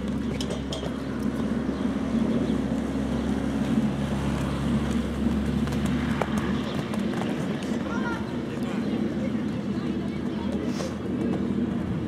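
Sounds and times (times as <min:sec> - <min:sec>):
engine humming: 0:00.0 - 0:12.0
wind rumble on microphone: 0:00.0 - 0:12.0.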